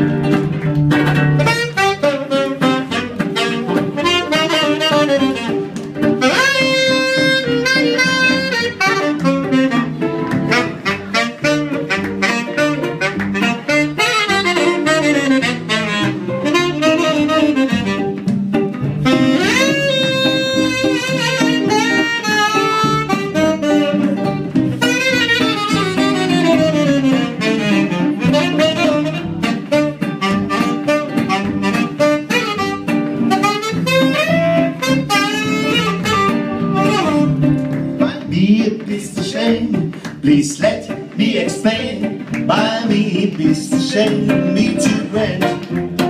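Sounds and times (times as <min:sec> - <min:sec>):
plucked double bass: 0:00.0 - 0:46.0
strummed acoustic guitar: 0:00.0 - 0:46.0
tenor saxophone solo: 0:01.0 - 0:38.0.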